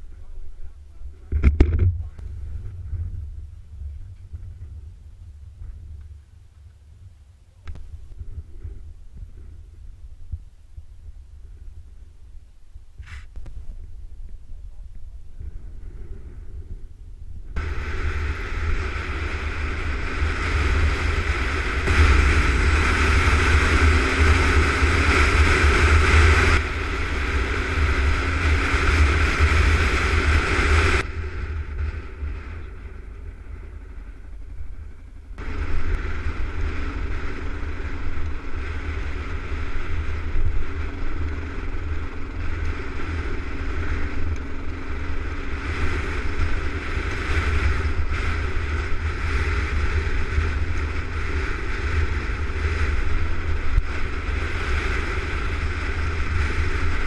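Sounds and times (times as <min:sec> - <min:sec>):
motorcycle engine running: 0:00.0 - 0:57.0
wind rumbling on microphone: 0:00.0 - 0:57.0.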